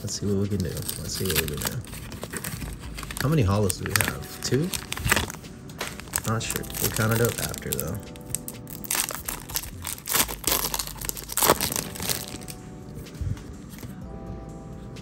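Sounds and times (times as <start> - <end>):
foil wrapper crinkling and tearing: 0.0 - 12.6.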